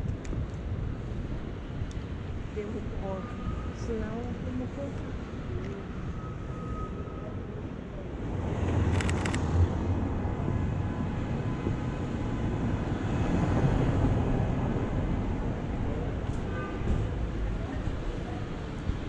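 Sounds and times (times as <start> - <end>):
low rumble of city street: 0.0 - 19.0.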